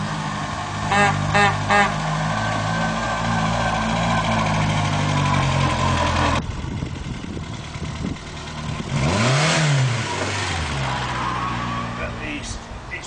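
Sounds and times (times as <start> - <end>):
car engine running: 0.0 - 11.2.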